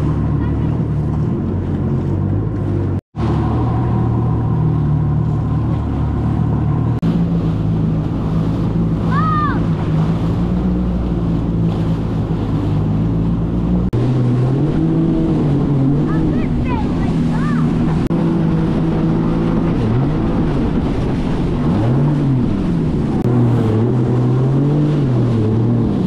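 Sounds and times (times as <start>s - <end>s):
jet ski engine humming: 0.0s - 26.0s.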